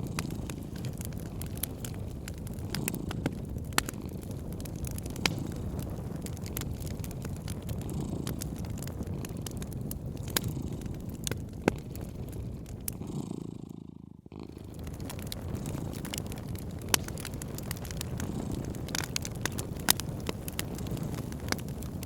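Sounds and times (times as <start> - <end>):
cat purring: 0.0 - 22.0
wood fire crackling and popping: 0.0 - 22.0.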